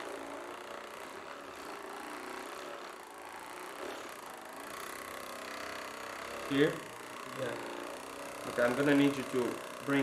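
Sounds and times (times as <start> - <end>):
massage gun motor buzzing: 0.0 - 10.0.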